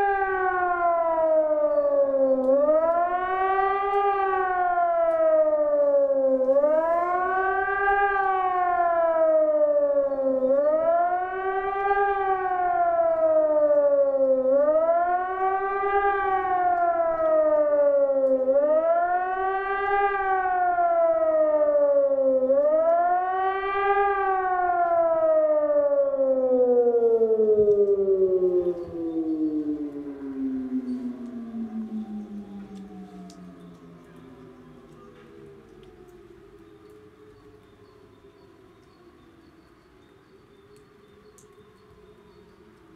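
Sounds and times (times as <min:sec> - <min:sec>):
civil defence siren wailing: 0:00.0 - 0:42.9.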